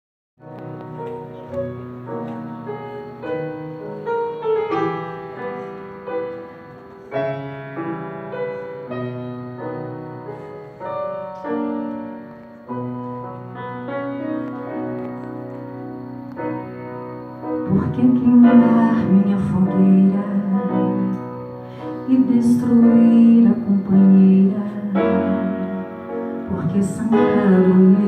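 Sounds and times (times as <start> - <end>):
piano ballad introduction: 0.4 - 28.0.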